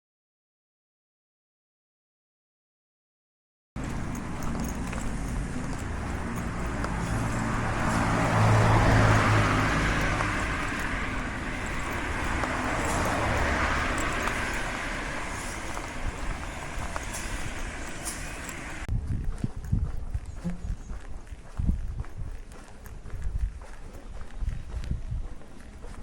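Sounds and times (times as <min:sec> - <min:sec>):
cars passing: 0:03.8 - 0:19.5, 0:20.1 - 0:26.0.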